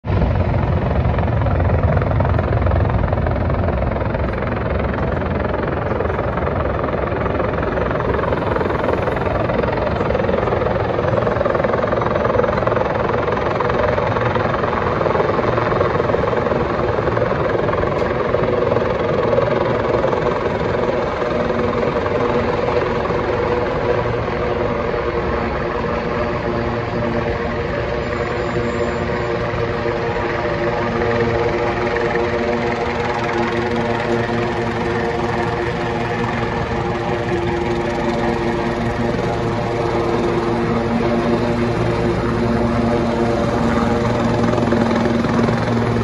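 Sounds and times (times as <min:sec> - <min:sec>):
helicopter engine drone: 0:00.0 - 0:46.0
helicopter rotor beating: 0:00.1 - 0:46.0.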